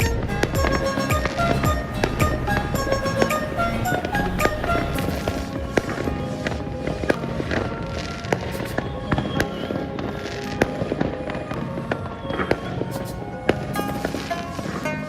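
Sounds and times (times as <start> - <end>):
background music: 0.0 - 15.0
fireworks bangs: 0.0 - 15.0.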